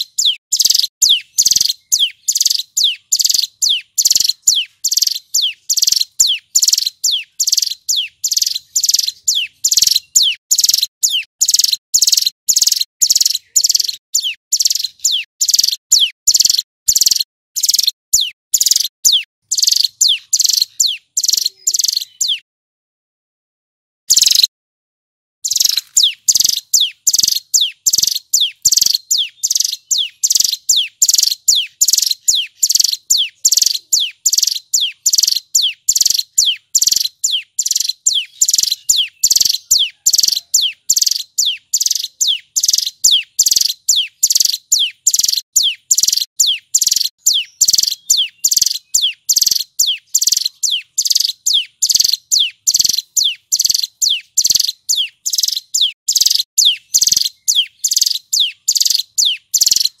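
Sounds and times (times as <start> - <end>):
bird singing sharp high notes: 0.0 - 22.4, 24.1 - 24.5, 25.4 - 60.0.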